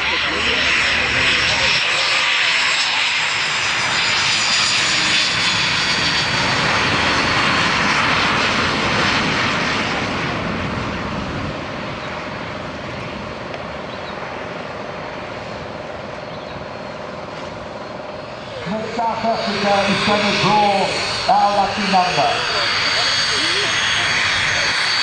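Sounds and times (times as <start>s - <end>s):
jet engine high whine: 0.0s - 25.0s.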